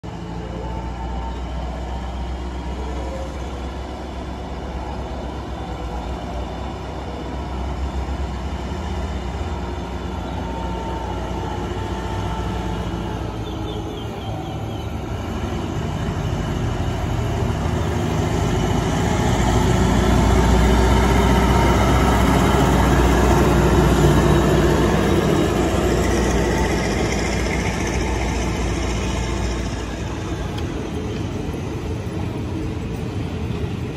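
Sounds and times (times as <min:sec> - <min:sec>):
rail rumble: 0:00.0 - 0:33.9
train engine drone: 0:00.0 - 0:33.9.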